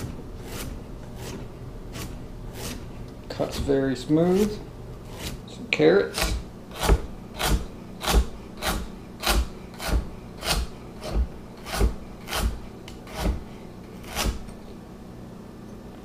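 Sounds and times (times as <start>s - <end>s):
knife chopping on cutting board: 0.0s - 4.5s, 5.1s - 5.4s, 6.0s - 14.5s.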